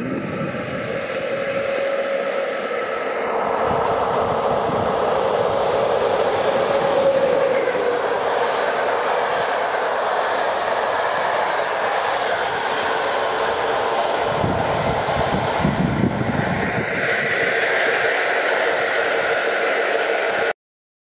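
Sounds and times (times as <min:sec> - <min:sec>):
passenger train passing at speed: 0:00.0 - 0:20.5.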